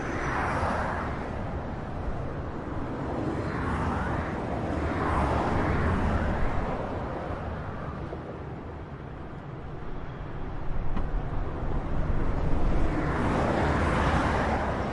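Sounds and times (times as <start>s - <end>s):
highway traffic noise: 0.0s - 14.9s.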